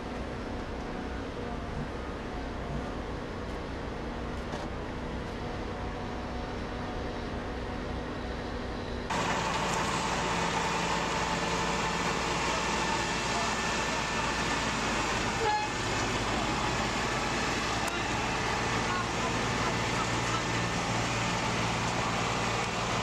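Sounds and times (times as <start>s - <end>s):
road noise: 0.0s - 23.0s
traffic noise: 0.0s - 23.0s
truck engine running: 0.0s - 23.0s.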